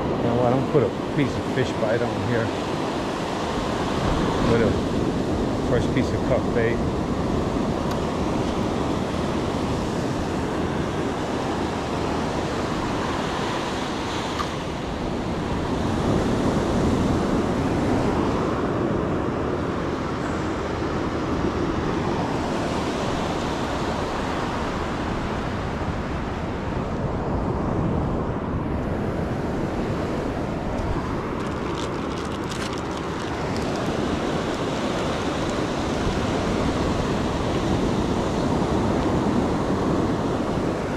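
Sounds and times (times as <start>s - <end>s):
ocean surf breaking: 0.0s - 40.9s
wind rumble on microphone: 0.0s - 40.9s.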